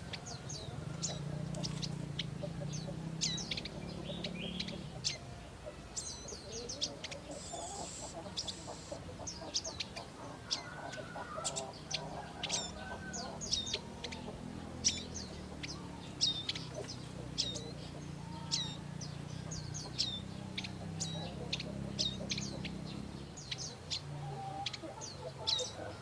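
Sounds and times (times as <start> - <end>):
soft low twittering: 0.0 - 24.1.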